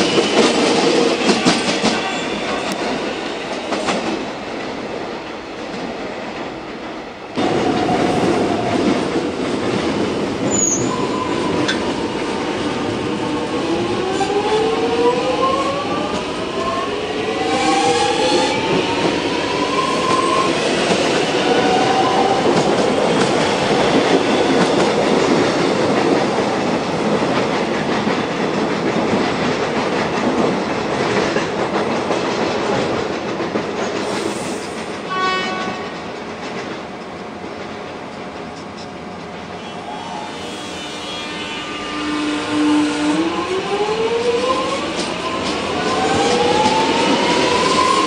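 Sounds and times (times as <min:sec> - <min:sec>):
train rumble and wheel noise: 0:00.0 - 0:48.0.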